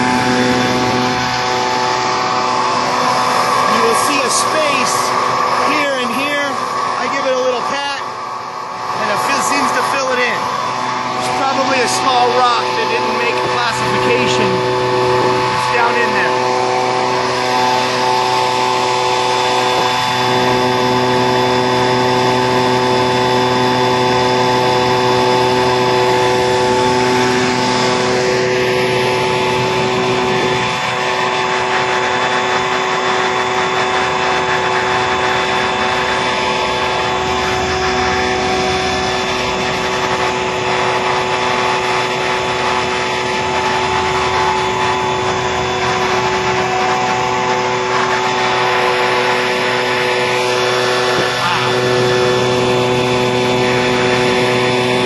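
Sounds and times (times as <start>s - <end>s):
machine motor hum: 0.0s - 55.0s
noisy wash: 0.0s - 55.0s
steady machine tones: 0.0s - 55.0s.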